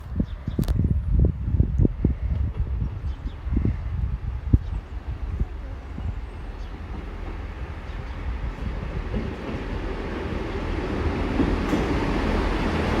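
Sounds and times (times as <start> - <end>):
train rumbling: 0.9 - 13.0.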